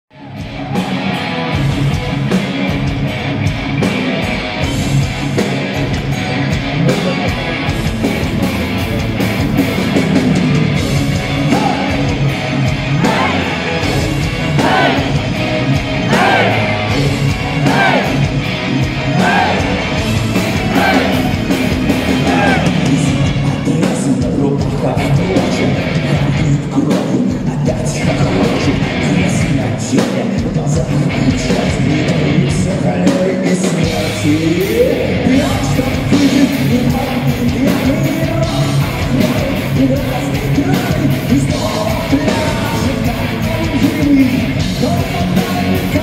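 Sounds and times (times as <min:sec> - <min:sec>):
bass guitar: 0:00.0 - 0:46.0
distorted electric guitars: 0:00.0 - 0:46.0
steady drum beat: 0:00.2 - 0:46.0.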